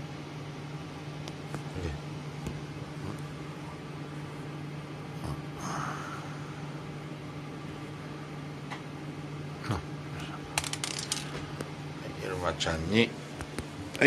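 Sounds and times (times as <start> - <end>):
appliance humming: 0.0 - 14.0.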